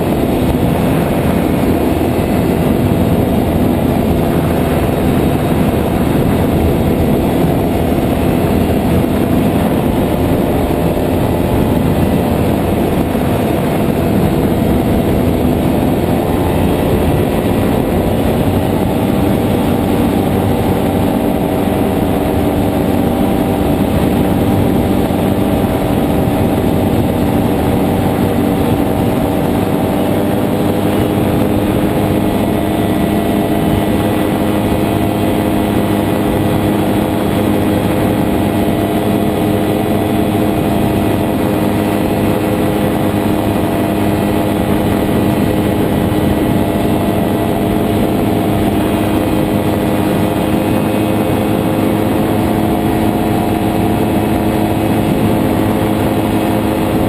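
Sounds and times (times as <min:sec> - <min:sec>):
propeller whirring: 0:00.0 - 0:57.0
two-stroke engine running: 0:00.0 - 0:57.0
wind buffeting microphone: 0:00.0 - 0:57.0.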